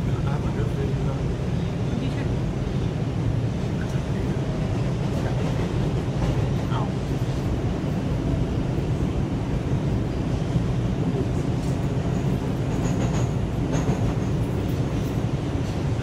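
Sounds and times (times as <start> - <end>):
subway car rumbling on rails: 0.0 - 16.0.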